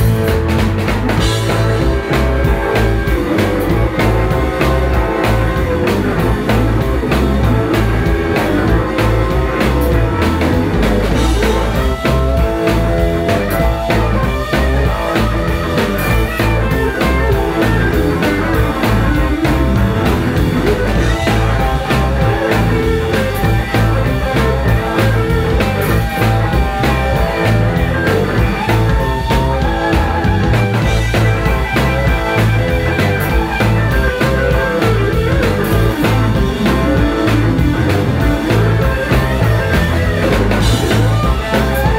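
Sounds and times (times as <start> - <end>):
blues-rock band playing: 0.0 - 41.9
loud drum beat: 0.0 - 41.9.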